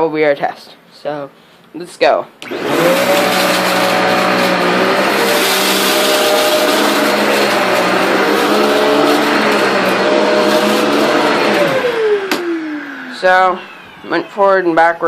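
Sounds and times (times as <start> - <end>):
vacuum cleaner whine: 2.4 - 15.0
vacuum over carpet: 2.4 - 15.0.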